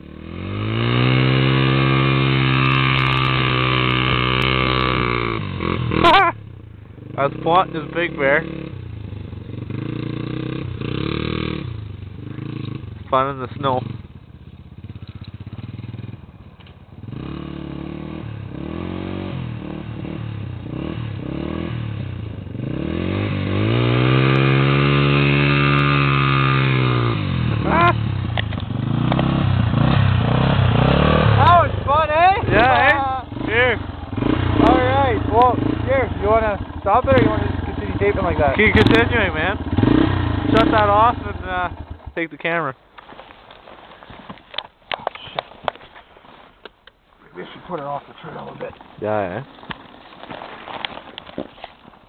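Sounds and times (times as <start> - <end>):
atv engine revving: 0.0 - 42.6, 47.3 - 51.9.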